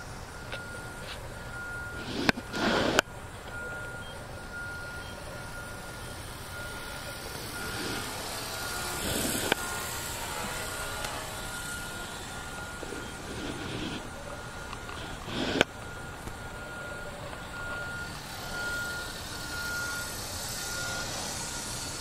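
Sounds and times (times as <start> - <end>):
helicopter rotor noise: 0.0 - 22.0
high-pitched beeps: 0.0 - 22.0.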